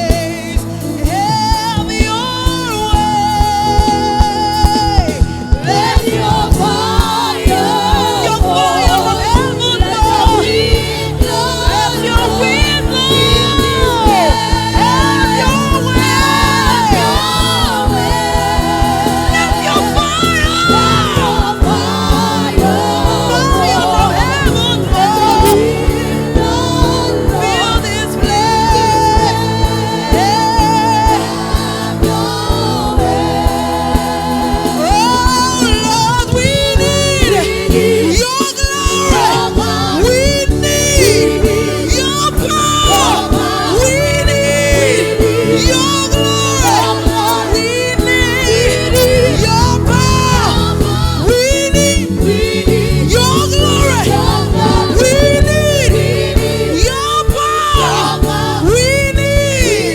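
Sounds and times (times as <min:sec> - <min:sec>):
band with steady beat: 0:00.0 - 0:59.9
vocalists singing gospel: 0:00.0 - 0:59.9.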